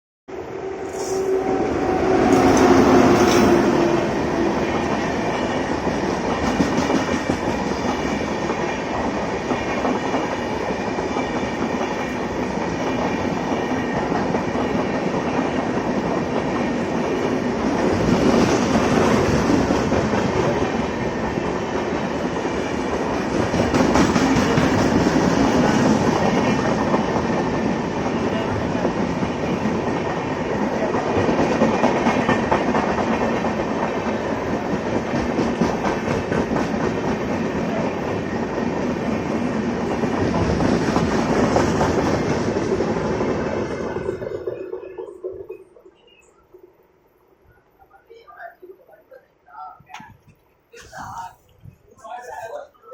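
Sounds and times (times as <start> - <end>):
train rumbling on track: 0.3 - 50.2.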